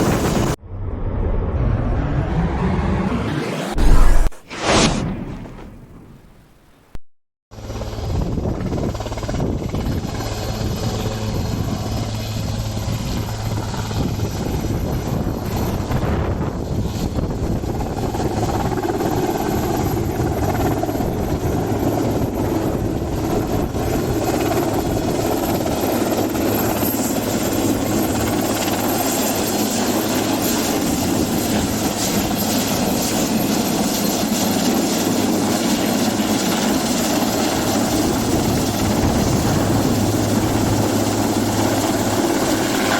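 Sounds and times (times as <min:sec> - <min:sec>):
helicopter rotors and engine: 0:00.0 - 0:04.3, 0:07.6 - 0:42.9.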